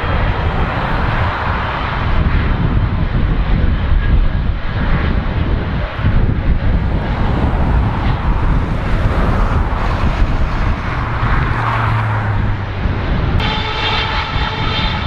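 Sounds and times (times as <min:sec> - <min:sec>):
jet engines taxiing: 0:00.0 - 0:15.0
wind buffeting microphone: 0:00.0 - 0:15.0.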